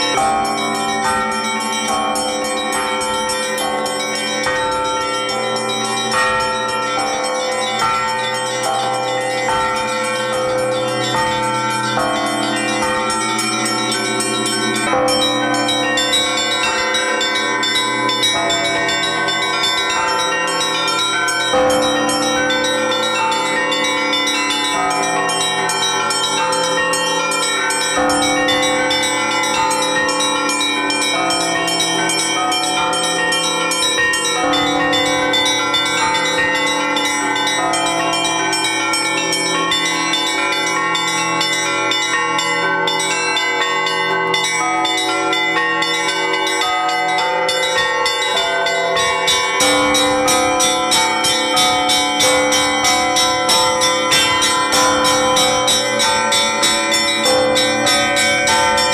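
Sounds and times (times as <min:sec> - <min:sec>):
mid-size bells ringing: 0:00.0 - 0:58.9
small bells struck rapidly: 0:00.0 - 0:58.9.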